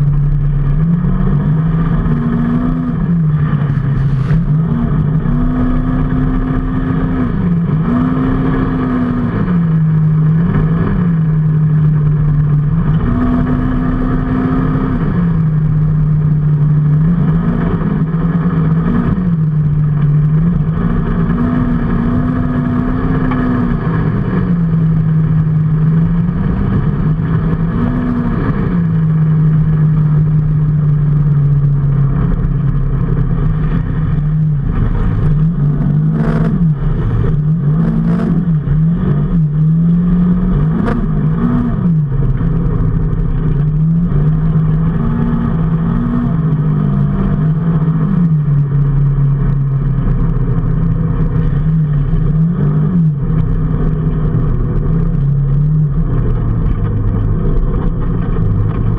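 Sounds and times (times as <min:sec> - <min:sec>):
motorcycle engine revving: 0:00.0 - 0:58.9
wind and road noise: 0:00.0 - 0:58.9.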